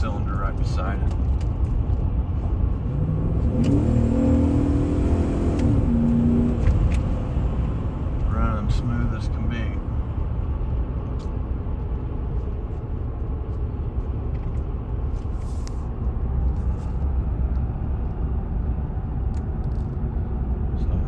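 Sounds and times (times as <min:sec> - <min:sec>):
engine running with low rumble: 0:00.0 - 0:21.0.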